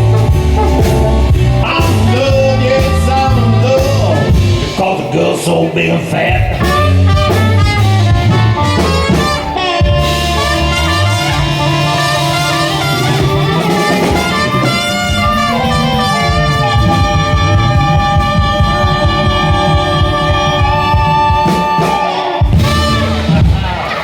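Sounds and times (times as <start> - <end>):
swing-blues band instrumental: 0.0 - 24.0.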